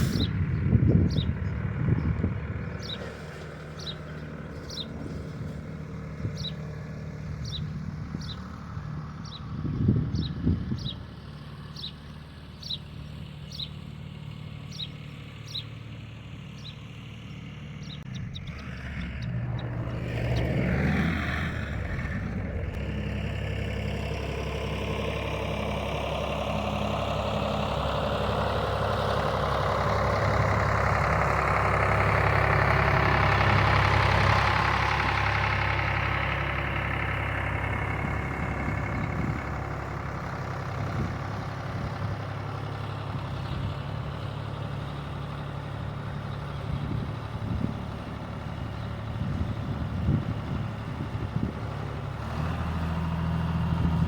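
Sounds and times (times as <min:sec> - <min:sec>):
tractor diesel engine: 0:00.0 - 0:54.0.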